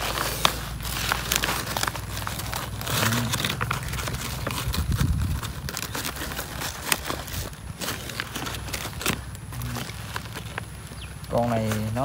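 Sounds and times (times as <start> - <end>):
sack and leaf litter rustling: 0.0 - 12.0
sharp clicks and crackles: 0.0 - 12.0.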